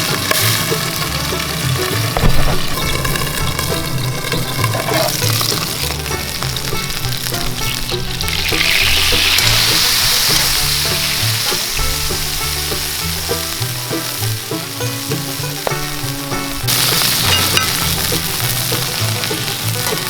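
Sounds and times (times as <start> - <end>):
patties sizzling in a pan: 0.0 - 20.0.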